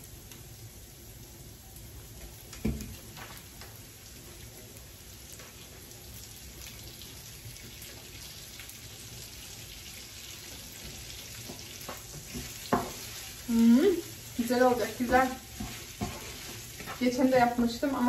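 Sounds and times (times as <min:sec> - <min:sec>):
butter sizzling in pot: 0:00.0 - 0:18.0.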